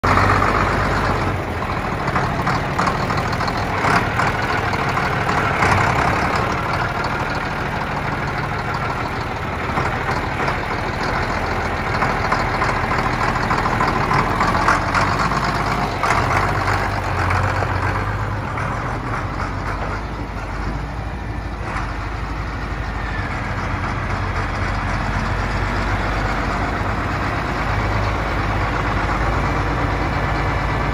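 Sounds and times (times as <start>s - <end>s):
tractor diesel engine idling: 0.0s - 30.9s.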